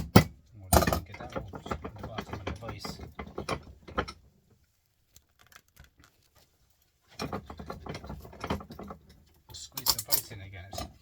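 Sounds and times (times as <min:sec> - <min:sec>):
clicks and rattling of hand work: 0:00.0 - 0:11.0.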